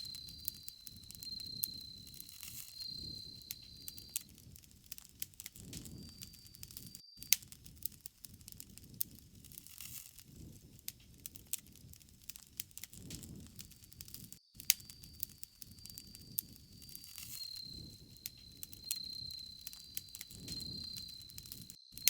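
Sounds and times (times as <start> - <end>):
low rush of flames: 0.0 - 21.8
bonfire crackling and popping: 0.0 - 22.0.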